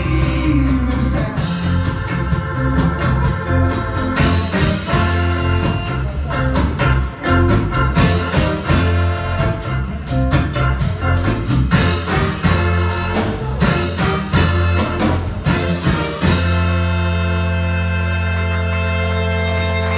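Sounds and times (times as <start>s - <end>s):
driving drum beat: 0.0s - 19.9s
live band with horns: 0.0s - 19.9s.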